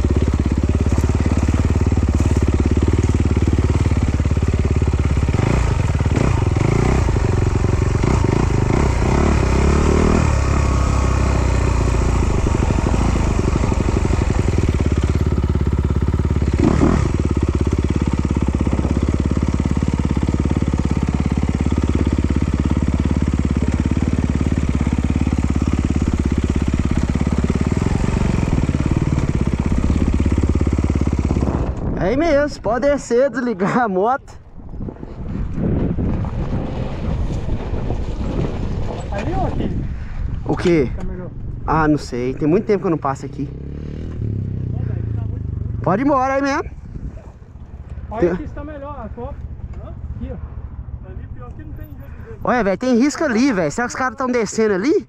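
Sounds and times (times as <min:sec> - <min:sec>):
motorcycle engine running: 0:00.0 - 0:33.0, 0:34.5 - 0:55.0.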